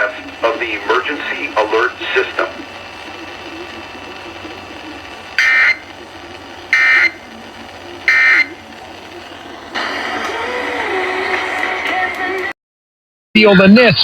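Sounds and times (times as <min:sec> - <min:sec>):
harsh data bursts: 0:00.0 - 0:12.4
radio hiss: 0:00.0 - 0:12.5.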